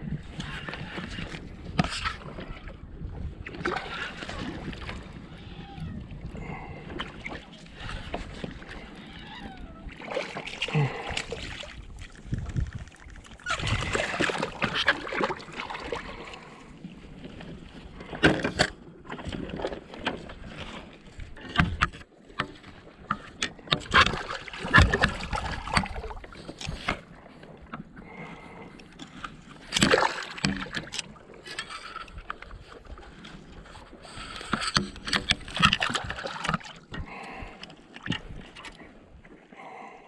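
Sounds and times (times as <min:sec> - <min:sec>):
water splashing around kayak: 0:00.0 - 0:40.0.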